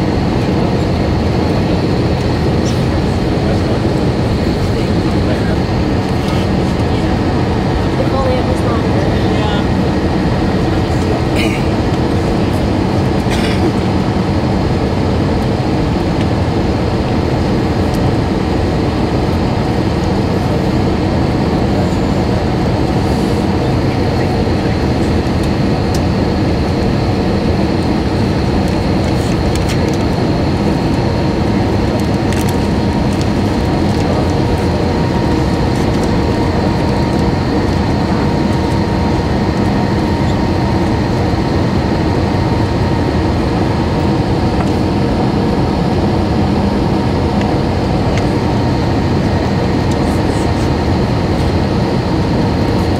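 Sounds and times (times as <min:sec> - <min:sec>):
jet engines and airflow rumble: 0:00.0 - 0:52.9.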